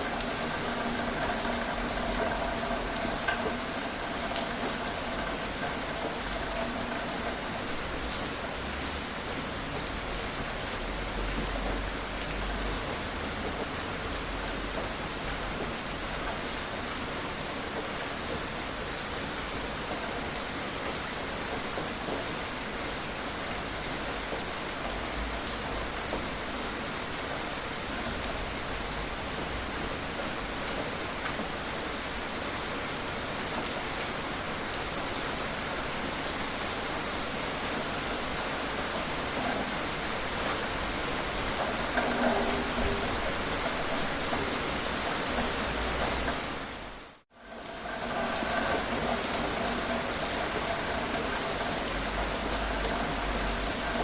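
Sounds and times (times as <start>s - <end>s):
rain pattering on surfaces: 0.0s - 54.0s.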